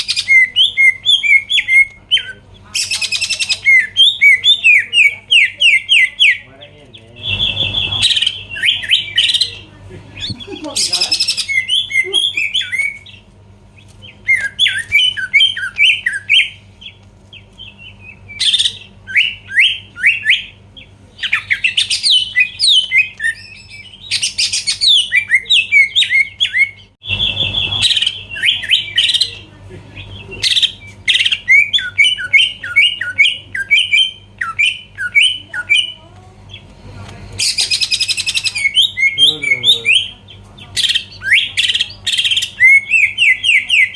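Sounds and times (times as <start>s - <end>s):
bird singing whistles and chatter: 0.0s - 36.6s, 37.4s - 43.9s
faint low hum: 0.0s - 43.9s.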